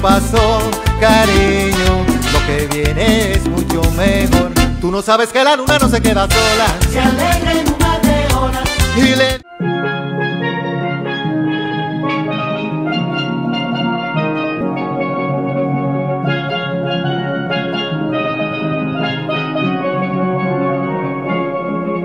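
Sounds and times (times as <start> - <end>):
instrumental background music: 0.0 - 5.0, 5.7 - 22.0.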